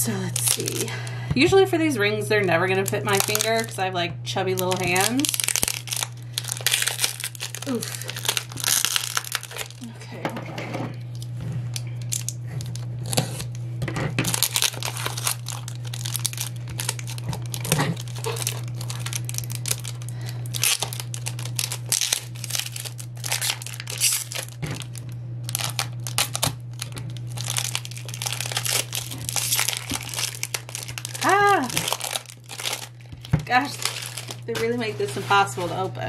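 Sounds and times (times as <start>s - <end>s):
plastic shrink-wrap crinkling: 0.0s - 1.1s, 2.3s - 3.8s, 4.5s - 9.9s, 11.1s - 13.5s, 14.2s - 35.9s
steady low hum: 0.0s - 36.0s.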